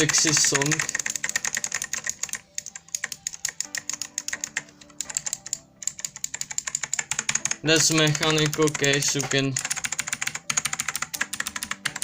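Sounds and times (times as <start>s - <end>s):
faint song playing: 0.0s - 12.0s
fast keyboard clicking: 0.0s - 12.0s.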